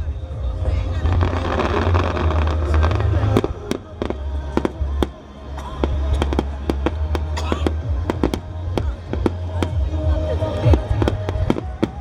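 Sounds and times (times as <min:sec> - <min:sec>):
low rumble of firework bursts: 0:00.5 - 0:12.0
firework cracks and crackles: 0:01.0 - 0:09.9, 0:10.7 - 0:12.0.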